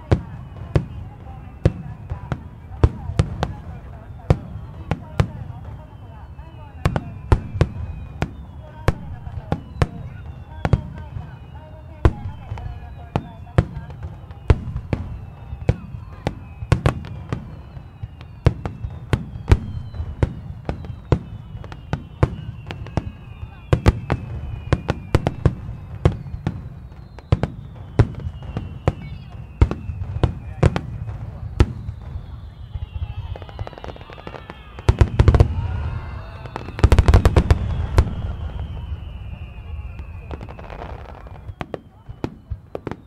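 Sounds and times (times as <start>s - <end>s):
fireworks bursting with bangs: 0.0s - 43.0s
high falling whistles: 3.8s - 43.0s.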